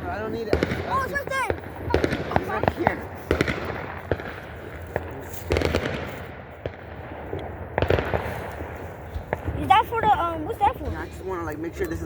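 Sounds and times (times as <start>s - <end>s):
fireworks and firecrackers popping: 0.0s - 12.0s.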